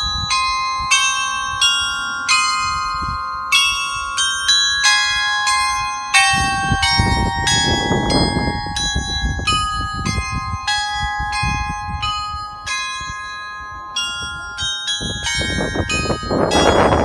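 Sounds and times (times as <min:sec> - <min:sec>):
tuned bells ringing a melody: 0:00.0 - 0:17.0.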